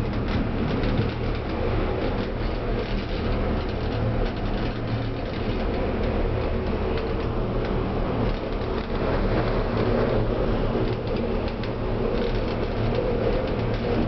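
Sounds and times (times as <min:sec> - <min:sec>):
aerial tram cabin rumble and hum: 0:00.0 - 0:14.0.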